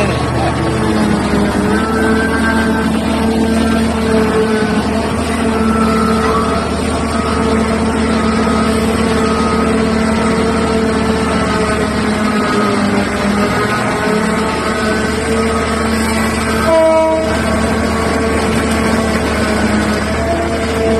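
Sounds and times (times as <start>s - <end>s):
diesel engines droning: 0.0s - 20.9s.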